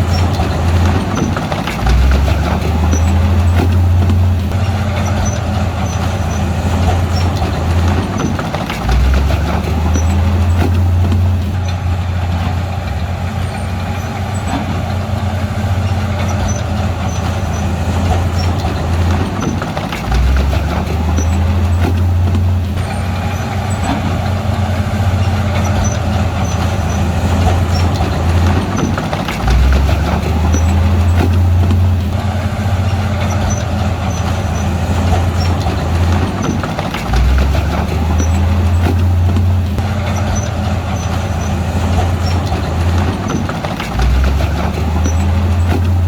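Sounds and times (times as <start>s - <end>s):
bulldozer diesel engine under load: 0.0s - 46.0s.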